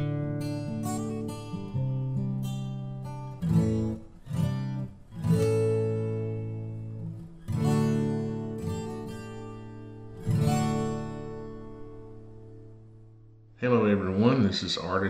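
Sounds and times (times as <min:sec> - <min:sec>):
strummed guitar chords: 0:00.0 - 0:14.4.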